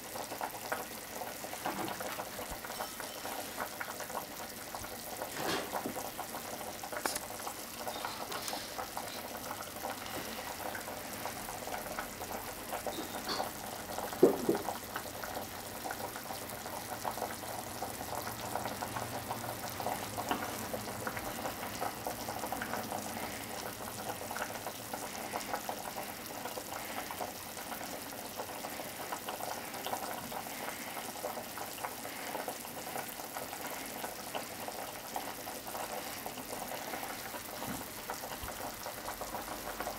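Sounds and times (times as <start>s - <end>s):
pot of liquid simmering: 0.0s - 39.9s.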